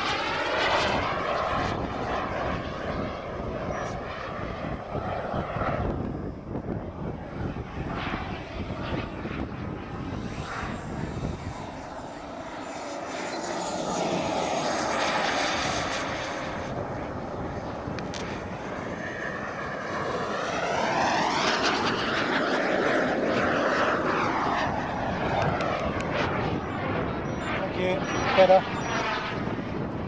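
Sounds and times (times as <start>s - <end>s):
model jet turbine whining: 0.0s - 30.0s
wind buffeting microphone: 0.0s - 30.0s.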